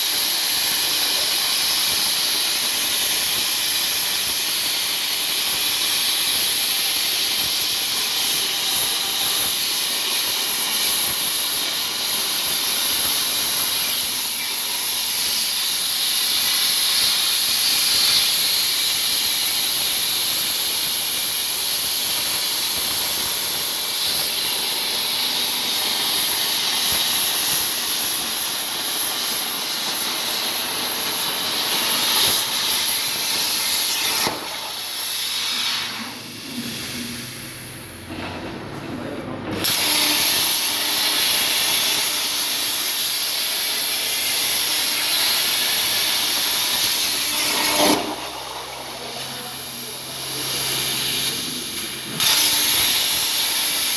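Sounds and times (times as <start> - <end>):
plasma torch hissing: 0.0 - 38.3, 39.5 - 53.9.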